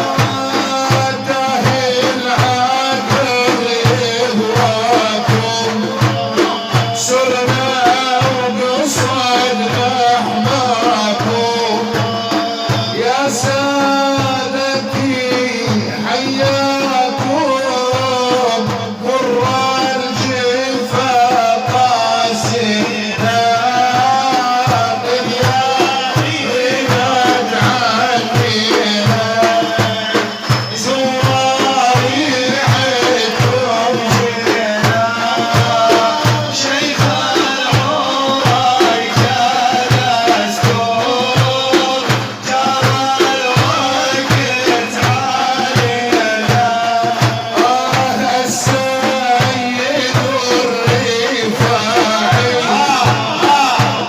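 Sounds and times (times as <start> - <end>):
man singing ornamented melody: 0.0 - 54.0
quick drum beat: 0.0 - 54.0.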